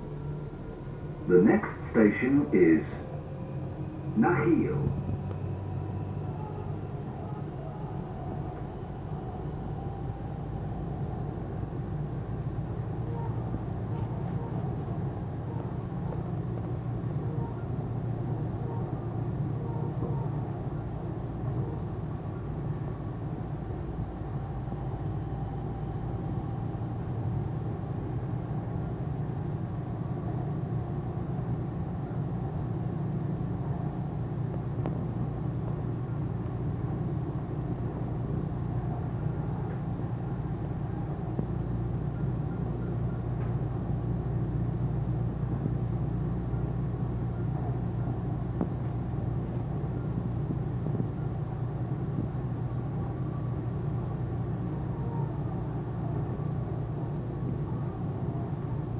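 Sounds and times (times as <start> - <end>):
metro train rumble: 0.0 - 58.9.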